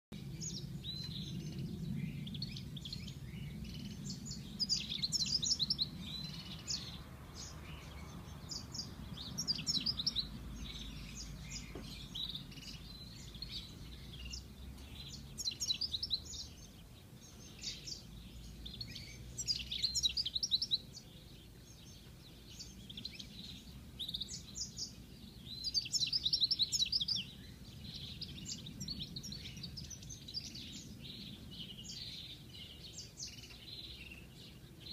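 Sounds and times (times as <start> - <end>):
finch twittering song: 0.1 - 34.9.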